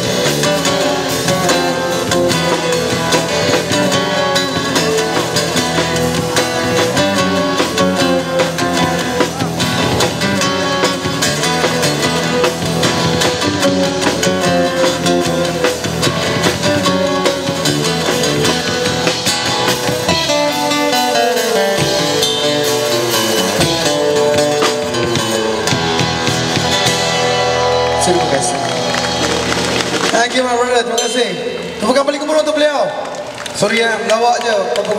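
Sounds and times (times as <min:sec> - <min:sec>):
acoustic guitar playing: 0:00.0 - 0:32.6.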